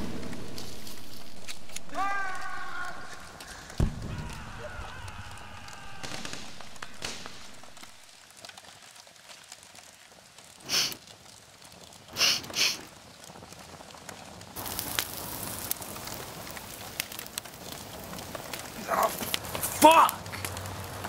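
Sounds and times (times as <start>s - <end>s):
fire hissing bursts: 0.0s - 13.6s, 14.5s - 21.0s
campfire crackling: 0.0s - 21.0s.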